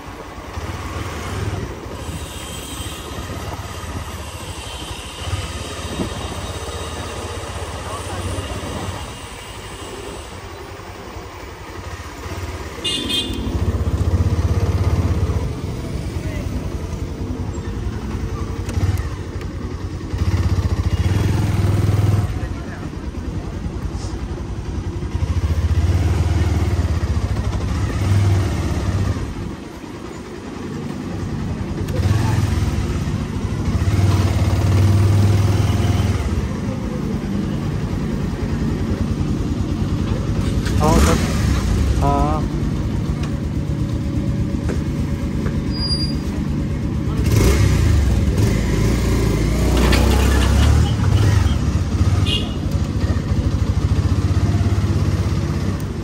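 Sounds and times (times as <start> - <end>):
motorcycle engine running: 10.7 - 56.0.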